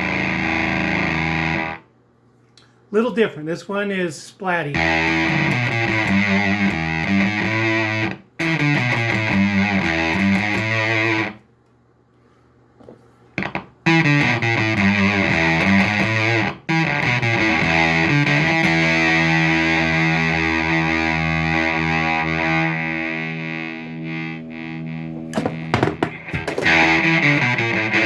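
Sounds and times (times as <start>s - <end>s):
fuzz electric guitar riffing: 0.0s - 1.8s, 4.7s - 11.4s, 13.4s - 28.0s
fuzzed guitar chords: 0.0s - 1.9s, 4.7s - 11.4s, 13.4s - 28.0s.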